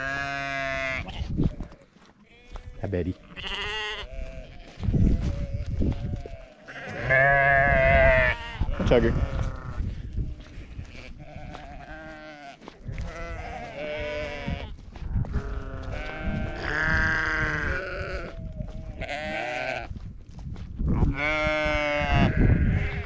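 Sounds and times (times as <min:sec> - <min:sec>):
sheep bleating: 0:00.0 - 0:20.0, 0:21.0 - 0:23.0.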